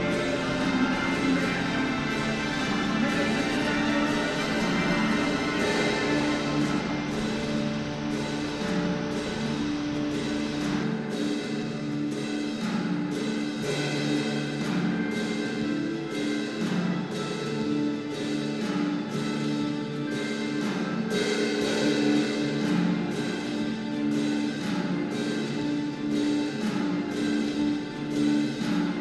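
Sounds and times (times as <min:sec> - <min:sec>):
slow music with held notes: 0:00.0 - 0:29.0.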